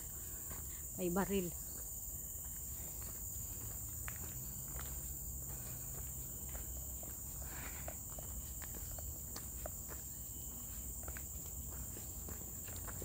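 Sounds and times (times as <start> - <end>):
footsteps crunching on gravel: 0.0 - 13.0.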